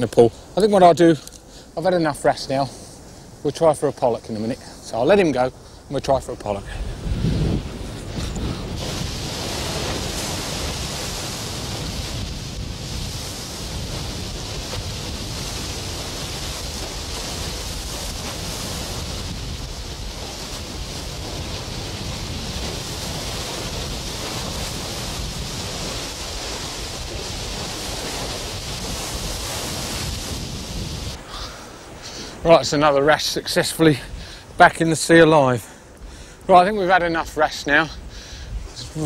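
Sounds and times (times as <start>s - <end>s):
sea surf: 1.6s - 39.0s
wind rumbling on microphone: 1.9s - 36.3s, 37.0s - 39.0s.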